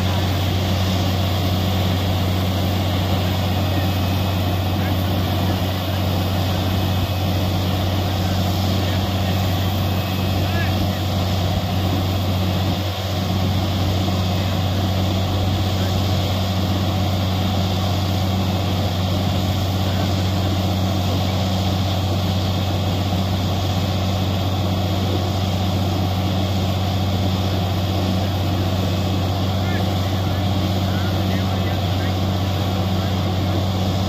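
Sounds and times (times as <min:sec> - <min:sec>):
drilling rig engine drone: 0:00.0 - 0:34.0.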